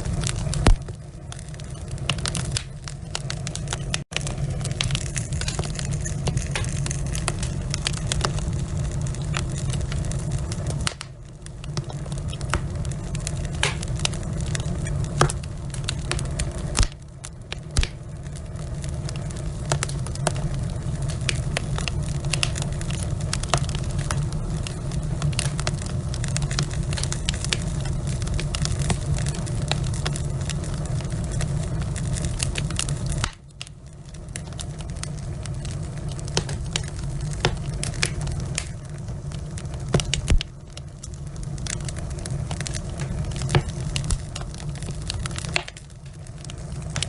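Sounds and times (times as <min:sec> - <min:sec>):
fire crackling and popping: 0:00.0 - 0:47.0
low rush of flame: 0:00.0 - 0:47.0.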